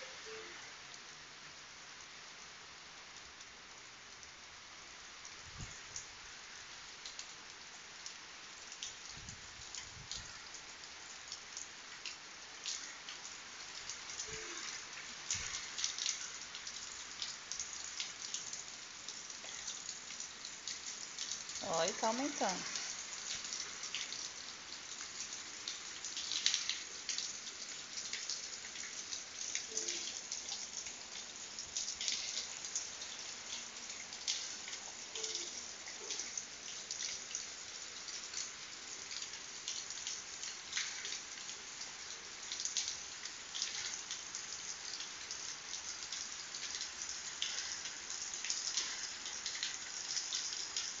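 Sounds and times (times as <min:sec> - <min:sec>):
heavy rain on leaves and ground: 0:00.0 - 0:51.0.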